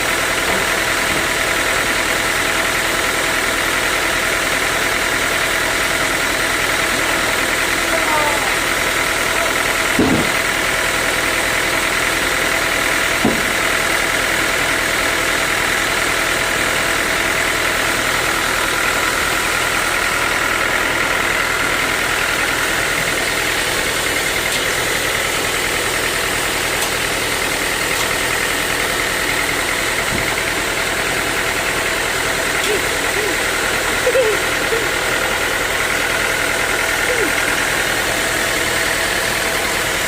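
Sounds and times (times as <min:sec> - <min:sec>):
sawmill saw whining: 0:00.0 - 0:40.0.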